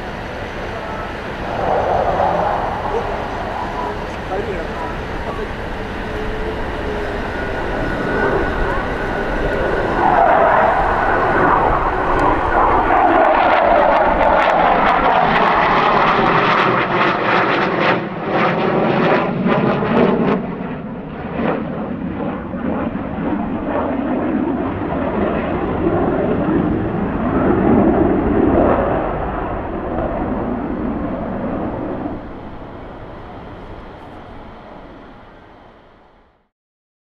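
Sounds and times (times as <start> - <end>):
jet engine crackling: 0.0 - 36.1
fighter jet engines rumbling: 0.0 - 36.5.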